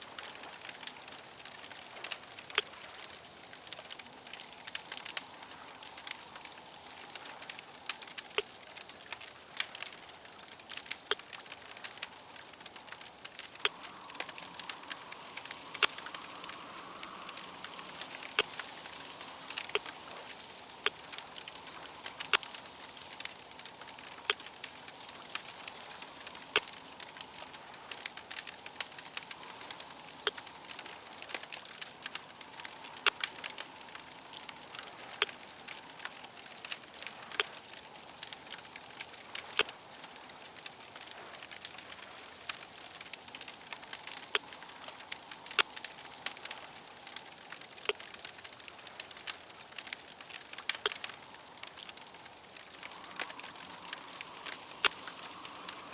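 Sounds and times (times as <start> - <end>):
fire crackling and popping: 0.0 - 55.9.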